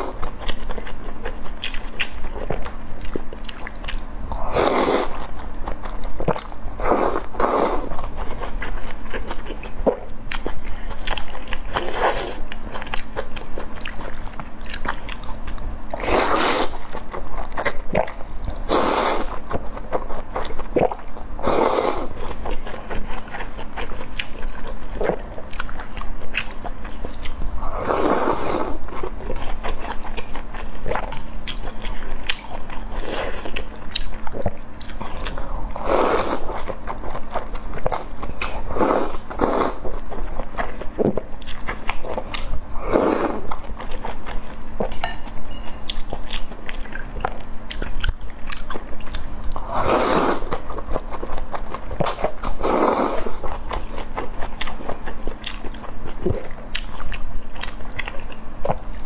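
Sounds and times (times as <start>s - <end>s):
chewing: 0.0s - 59.0s.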